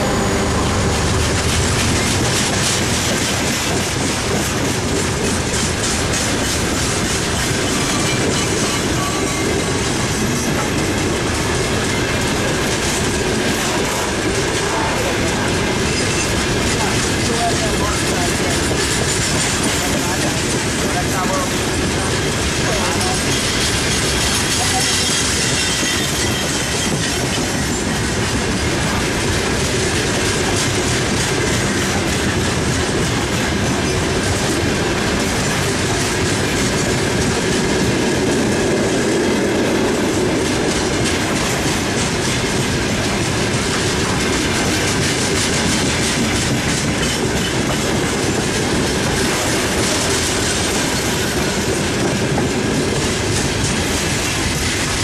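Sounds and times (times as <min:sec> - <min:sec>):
train wheels clattering over rail joints: 0:00.1 - 0:55.0.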